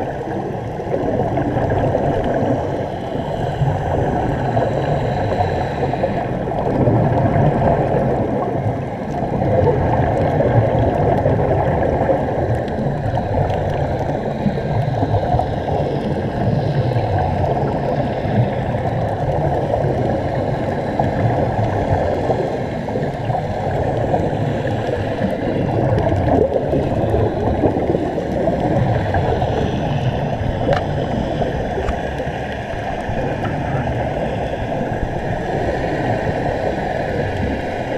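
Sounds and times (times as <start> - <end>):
underwater rumble and bubbling: 0.0 - 37.9.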